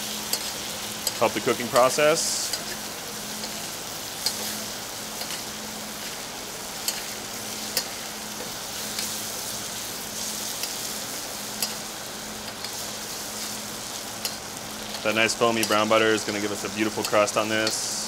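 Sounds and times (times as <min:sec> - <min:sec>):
meat sizzling in butter: 0:00.0 - 0:18.0.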